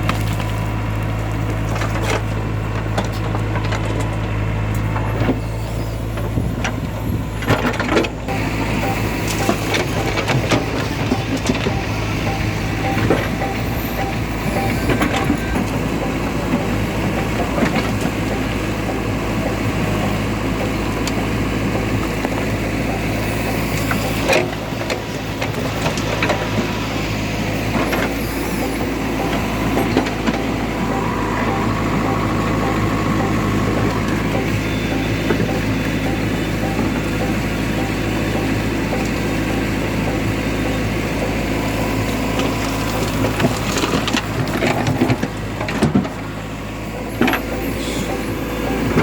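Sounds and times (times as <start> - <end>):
heavy machinery diesel engine running: 0.0 - 49.0.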